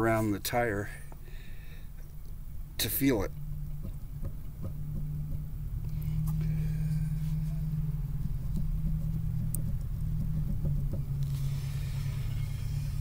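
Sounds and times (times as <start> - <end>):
motor humming: 2.4 - 13.0.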